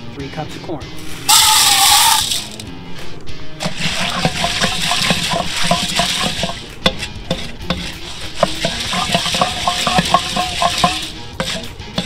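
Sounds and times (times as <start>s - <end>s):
kernels scraping metal kettle: 1.0s - 2.6s, 3.6s - 12.0s
oil hissing: 1.1s - 2.6s, 3.6s - 12.0s.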